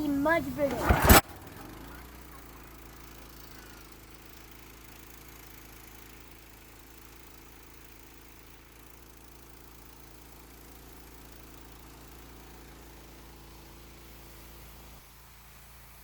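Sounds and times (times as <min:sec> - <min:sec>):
small gas engine running: 0:00.0 - 0:16.0.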